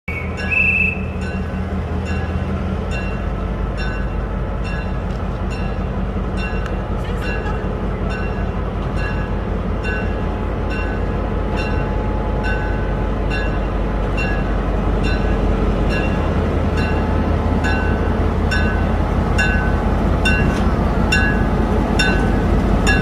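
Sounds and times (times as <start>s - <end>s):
locomotive engine drone: 0.1s - 23.0s.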